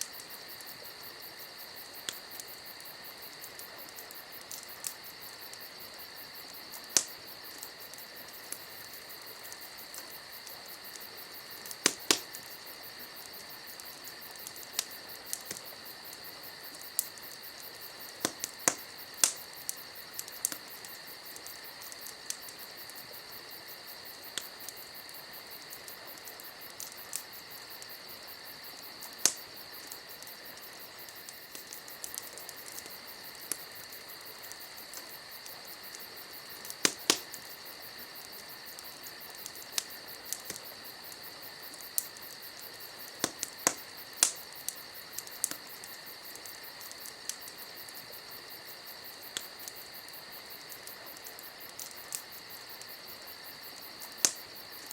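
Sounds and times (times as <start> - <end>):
campfire crackling: 0.0 - 54.9
crickets chirring: 0.0 - 54.9.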